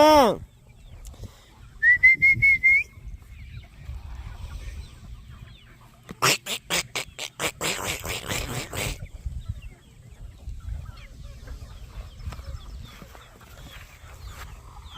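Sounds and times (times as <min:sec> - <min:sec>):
poultry clucking: 0:00.0 - 0:01.8, 0:02.8 - 0:14.9.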